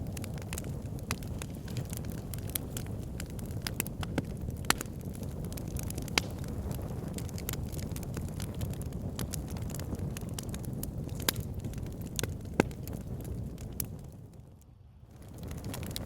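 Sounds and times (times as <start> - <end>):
sharp fire pops: 0.0 - 14.5, 15.2 - 16.0
wood fire crackling: 0.0 - 16.0.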